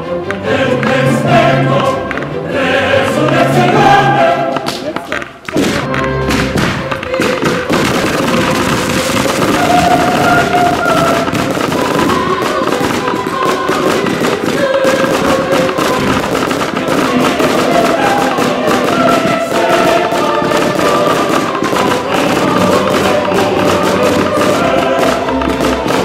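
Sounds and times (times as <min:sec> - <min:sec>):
music with long held notes: 0:00.0 - 0:26.0
fireworks bursting and crackling: 0:03.0 - 0:26.0.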